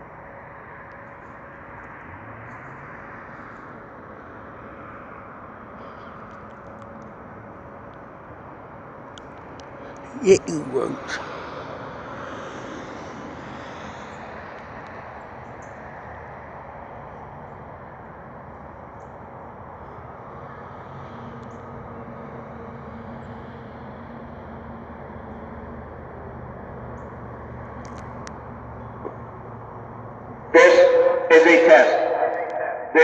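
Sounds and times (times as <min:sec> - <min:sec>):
city traffic hum: 0:00.0 - 0:33.0.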